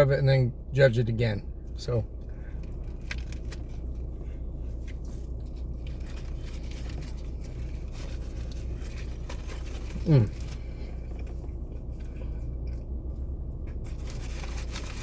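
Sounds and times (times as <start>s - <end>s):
car interior hum: 0.0s - 15.0s
sandwich wrapper rustling: 2.5s - 15.0s.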